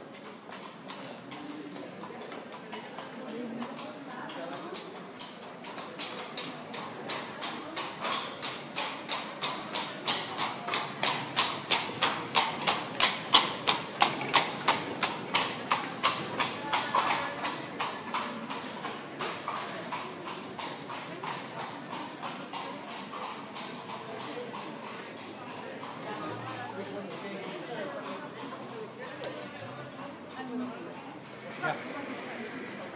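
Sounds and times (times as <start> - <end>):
horse hoofbeats: 0.1 - 32.9.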